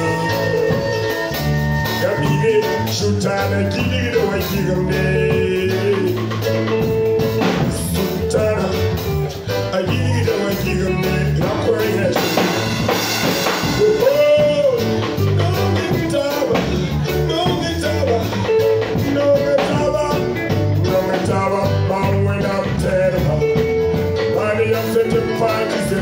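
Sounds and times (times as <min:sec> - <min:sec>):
man singing into microphone: 0:00.0 - 0:12.8, 0:13.5 - 0:26.0
band with bass and drums: 0:00.0 - 0:26.0.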